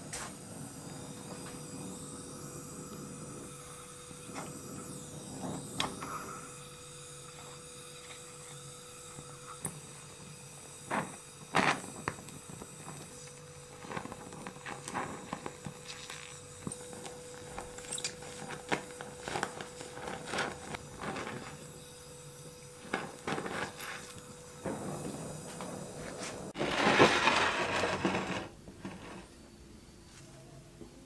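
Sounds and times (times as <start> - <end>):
gas torch flame hissing: 0.0 - 30.0.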